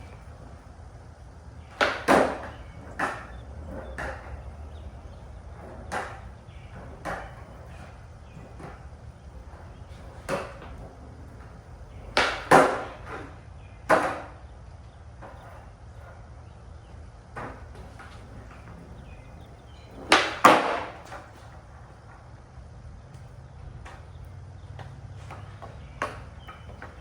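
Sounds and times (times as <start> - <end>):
skateboard wooden clacks: 0.0 - 22.5, 23.1 - 27.0.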